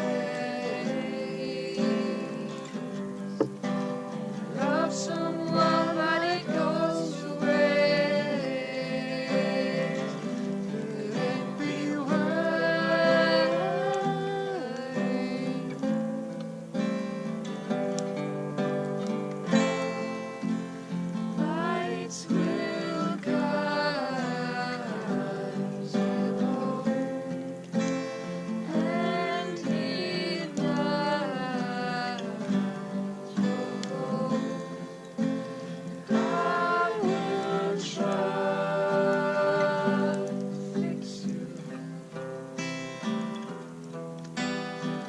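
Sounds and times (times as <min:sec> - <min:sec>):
person singing: 0:00.0 - 0:03.7, 0:04.3 - 0:16.5, 0:21.4 - 0:42.3
acoustic guitar strumming chords: 0:00.0 - 0:45.0.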